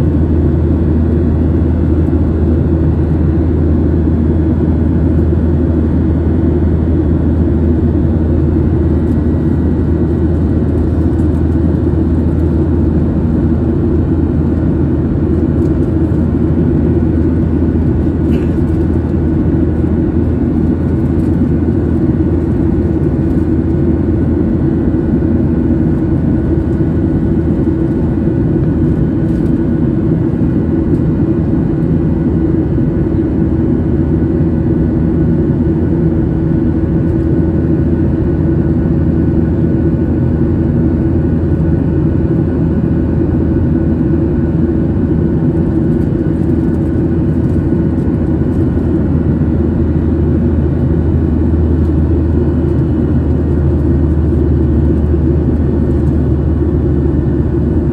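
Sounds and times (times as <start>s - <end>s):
jet engines droning: 0.0s - 57.9s.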